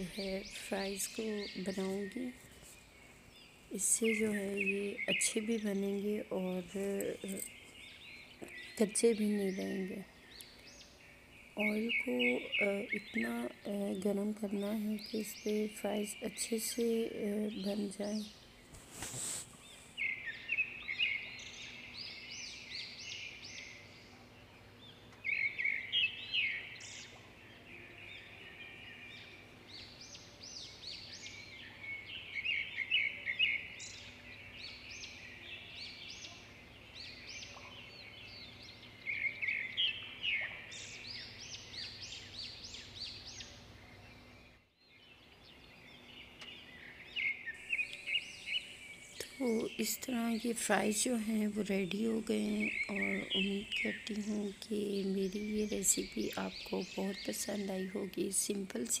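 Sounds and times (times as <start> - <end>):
faint low hum: 0.0 - 59.0
small birds chirping: 0.0 - 59.0.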